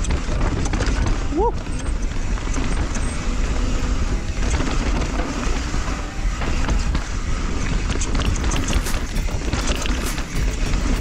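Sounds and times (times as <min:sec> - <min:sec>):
bike rattling over rough ground: 0:00.0 - 0:11.0
wind rumble on microphone: 0:00.0 - 0:11.0.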